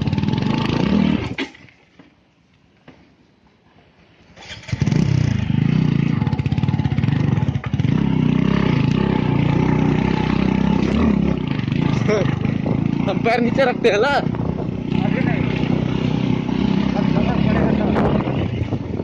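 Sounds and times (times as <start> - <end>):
motorcycle engine revving: 0.0 - 1.5, 4.4 - 19.0.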